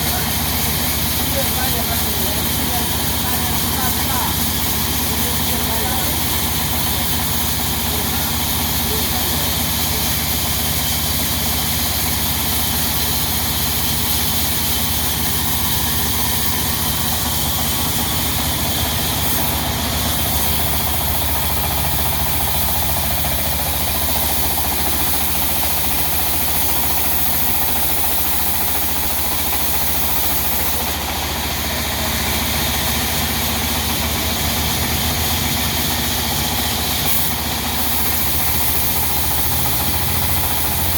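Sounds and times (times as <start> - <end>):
diesel engine droning: 0.0 - 40.9
hiss: 0.0 - 40.9.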